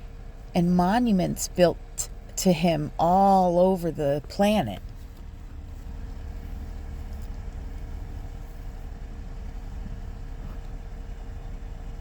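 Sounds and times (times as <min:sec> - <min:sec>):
faint constant hum: 0:00.0 - 0:12.0
low mechanical rumble: 0:00.0 - 0:12.0.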